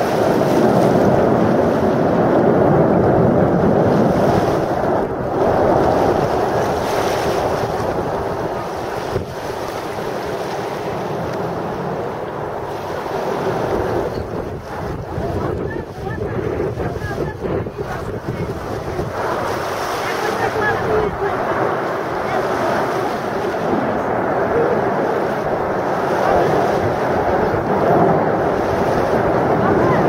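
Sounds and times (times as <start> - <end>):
jet roar overhead: 0.0 - 30.0.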